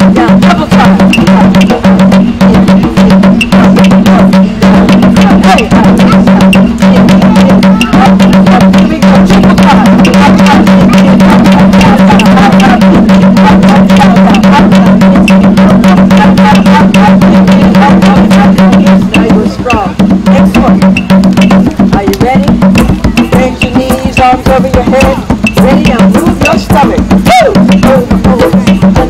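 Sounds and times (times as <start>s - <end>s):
fast loud drumming: 0.0s - 29.0s.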